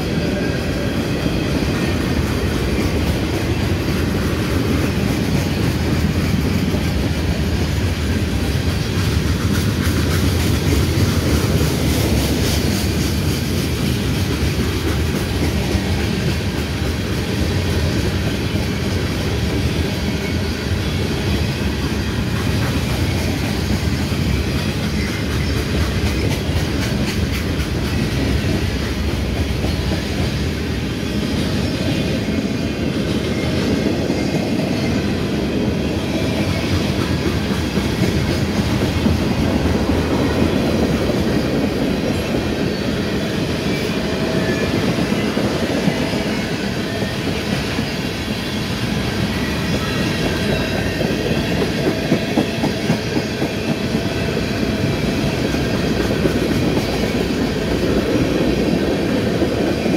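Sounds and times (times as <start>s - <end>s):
freight train wheels rumbling and clicking: 0.0s - 59.9s.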